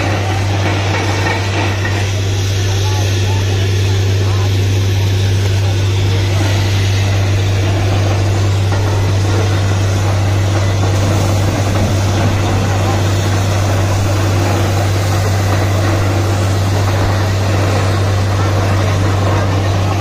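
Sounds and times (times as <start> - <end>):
drilling rig droning: 0.0 - 20.0
water and slurry rushing hiss: 0.0 - 20.0.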